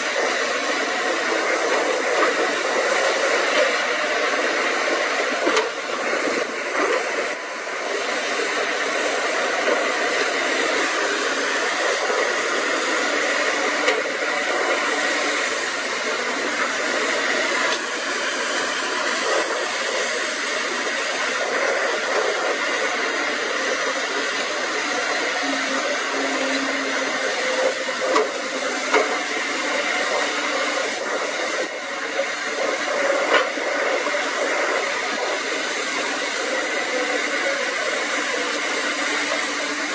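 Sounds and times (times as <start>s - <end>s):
excavators running: 0.0s - 39.9s.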